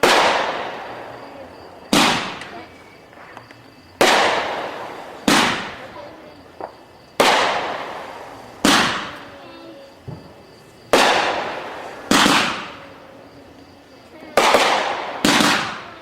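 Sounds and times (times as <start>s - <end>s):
fireworks bangs: 0.0s - 16.0s
small fireworks pops: 0.0s - 16.0s.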